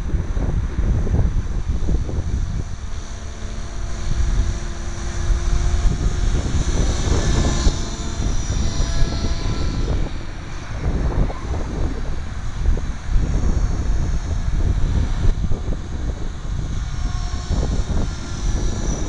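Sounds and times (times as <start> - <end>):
model helicopter motor whine: 0.0 - 19.0
wind rumbling on microphone: 0.0 - 19.0.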